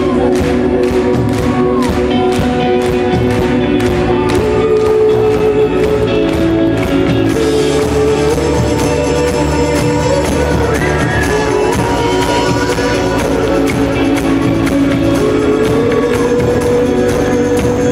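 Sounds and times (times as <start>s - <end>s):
held guitar and keyboard notes: 0.0s - 17.9s
rock band playing live: 0.0s - 17.9s
steady drum beat: 0.0s - 17.9s.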